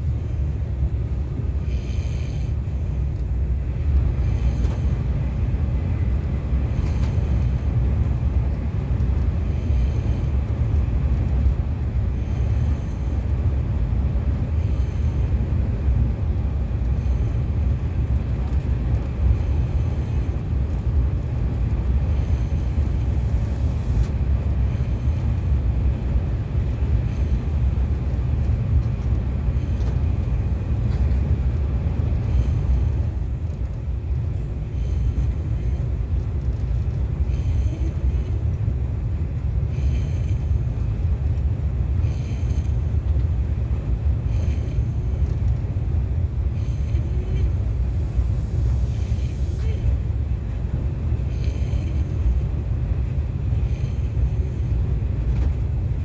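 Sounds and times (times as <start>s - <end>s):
train interior low rumble: 0.0s - 56.0s.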